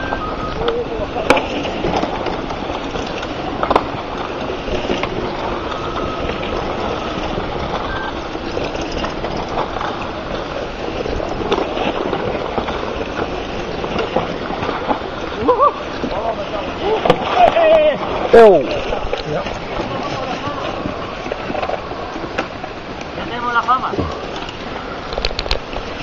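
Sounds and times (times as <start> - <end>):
bike tyres rushing on gravel: 0.0 - 26.0
sharp clicks and rattles: 0.5 - 23.2.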